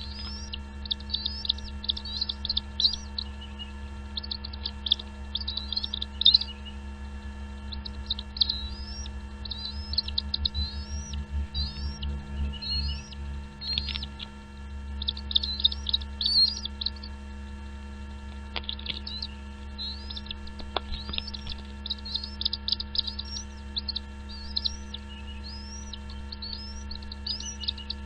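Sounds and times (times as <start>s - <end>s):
low electrical hum: 0.0s - 28.0s
small birds chirping: 0.0s - 28.0s.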